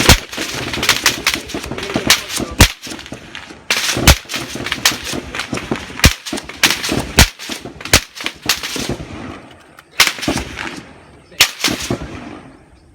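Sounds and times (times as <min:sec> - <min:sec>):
bullets cracking overhead: 0:00.0 - 0:12.6
rifle shots with rolling echo: 0:00.0 - 0:12.8.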